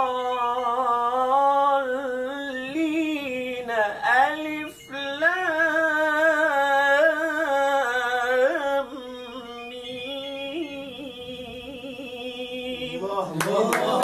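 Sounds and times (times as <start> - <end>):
man chanting melodic recitation: 0.0 - 14.0.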